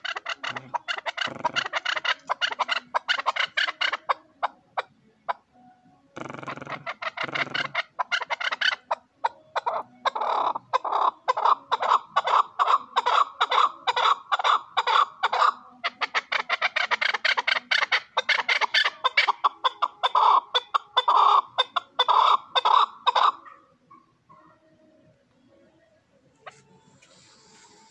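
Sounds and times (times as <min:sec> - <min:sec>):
partridge clucking calls: 0:00.0 - 0:05.5, 0:06.2 - 0:24.5.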